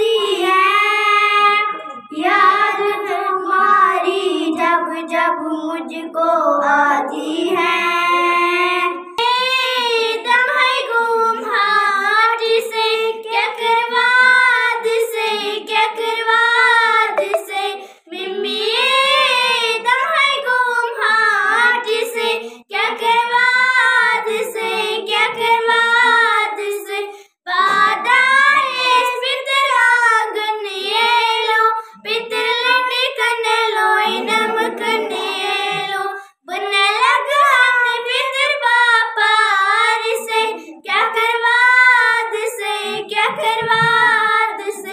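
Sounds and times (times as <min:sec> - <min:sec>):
girls singing unaccompanied: 0:00.0 - 0:44.9.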